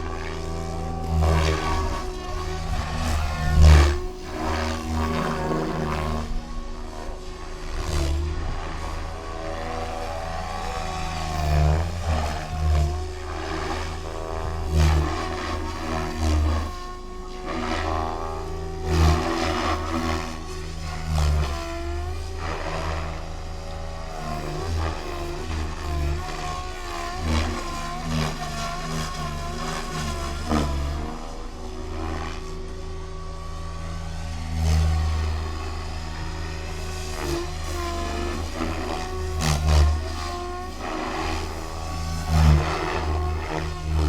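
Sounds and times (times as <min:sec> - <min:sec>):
rc helicopter motor whine: 0:00.0 - 0:44.0
rotor blade noise: 0:00.0 - 0:44.0.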